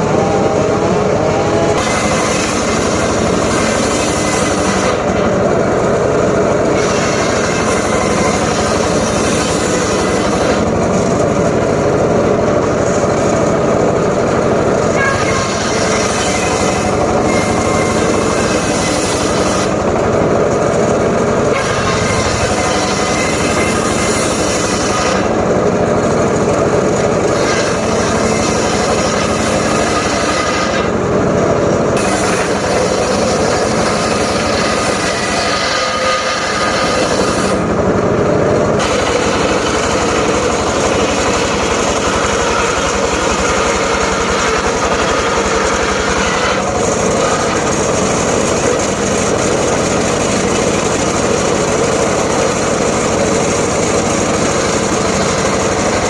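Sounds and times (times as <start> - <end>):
circular saw cutting wood: 0.0 - 38.1, 38.7 - 56.0.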